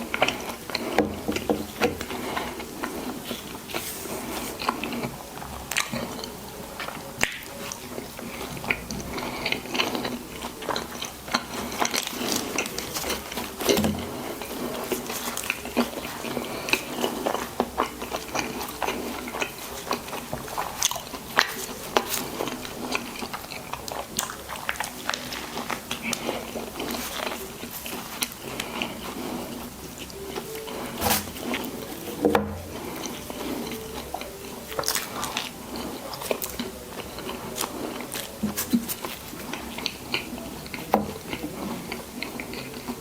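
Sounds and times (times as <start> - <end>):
biting and chewing food: 0.0 - 43.0.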